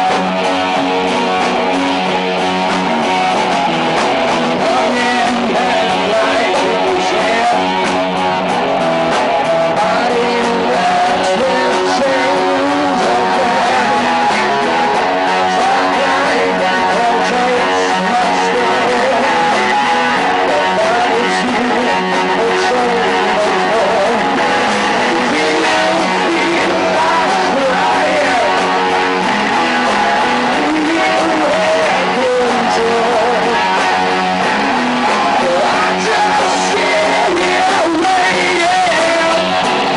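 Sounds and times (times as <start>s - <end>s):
electric guitars: 0.0s - 39.9s
man singing: 0.0s - 39.9s.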